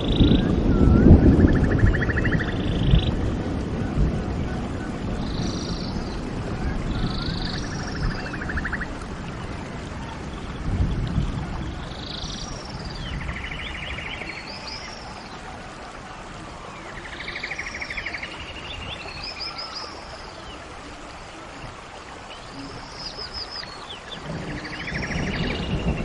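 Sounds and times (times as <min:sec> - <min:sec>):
songbird singing: 0:00.0 - 0:26.0
stream rushing: 0:00.0 - 0:26.0.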